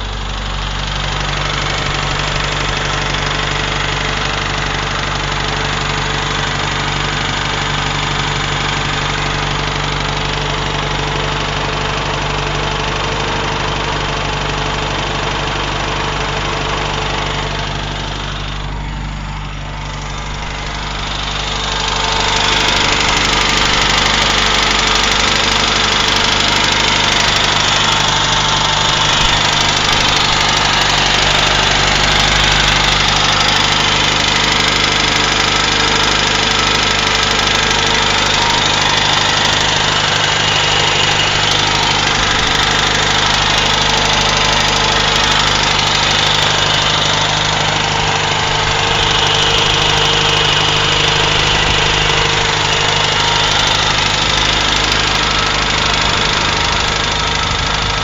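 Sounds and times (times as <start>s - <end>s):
engine running steadily: 0.0s - 58.0s
knocking inside engine: 0.0s - 58.0s.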